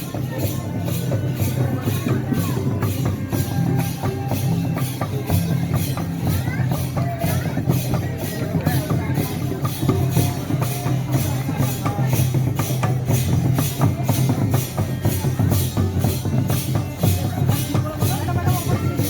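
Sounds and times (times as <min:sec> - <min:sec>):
music with steady drumbeat: 0:00.0 - 0:19.0.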